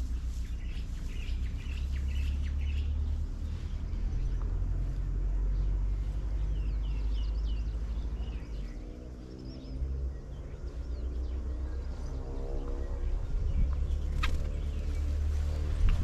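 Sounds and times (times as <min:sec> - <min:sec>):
low multi-pitched hum: 0:00.0 - 0:16.0
small birds chirping: 0:00.0 - 0:16.0
steady low rumble: 0:00.0 - 0:16.0.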